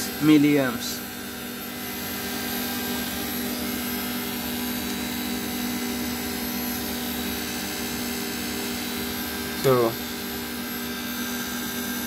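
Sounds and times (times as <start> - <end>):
compressor and fans droning: 0.0 - 12.0.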